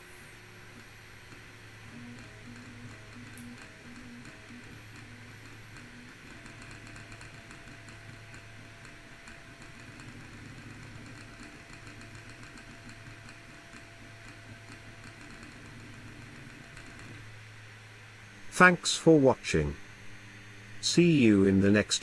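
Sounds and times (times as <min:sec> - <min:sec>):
printer motor hum: 0:00.0 - 0:22.0.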